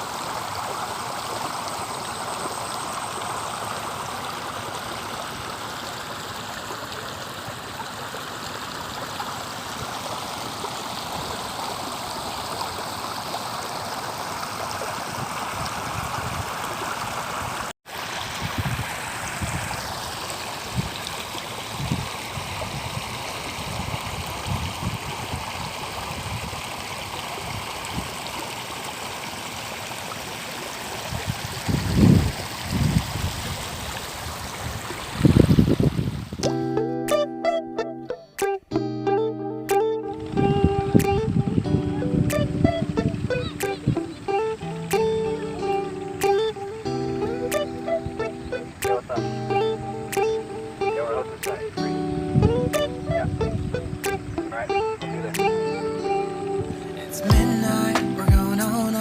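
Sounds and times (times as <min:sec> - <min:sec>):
river water flowing over rocks: 0:00.0 - 0:37.1, 0:39.7 - 0:59.0.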